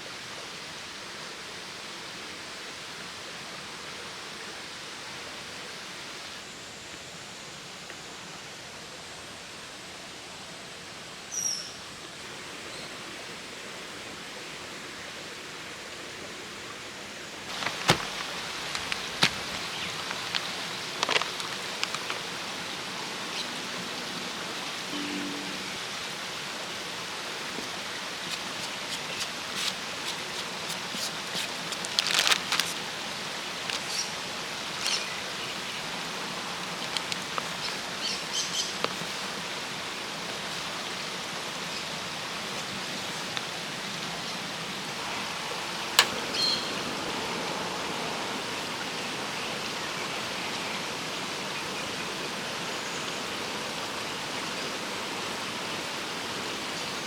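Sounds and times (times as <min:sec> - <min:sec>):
stream rushing: 0:08.4 - 0:57.0.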